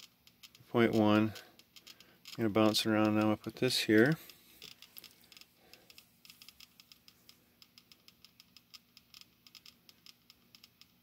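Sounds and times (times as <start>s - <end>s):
rapid meter clicking: 0.0s - 11.0s.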